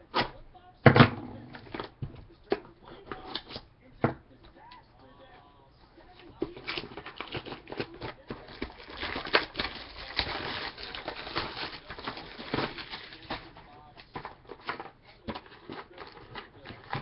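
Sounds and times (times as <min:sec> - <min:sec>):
card box packaging crackling: 0:00.0 - 0:03.7, 0:06.0 - 0:17.0.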